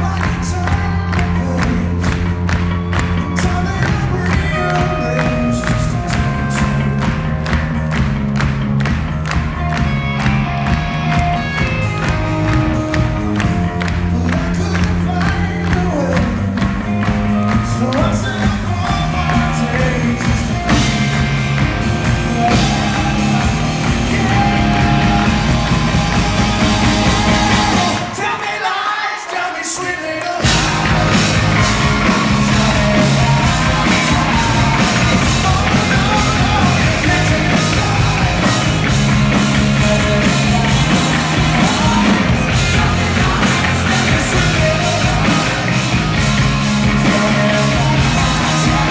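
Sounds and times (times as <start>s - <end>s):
man singing lead: 0.0s - 7.5s, 11.5s - 48.9s
live rock band: 0.0s - 48.9s.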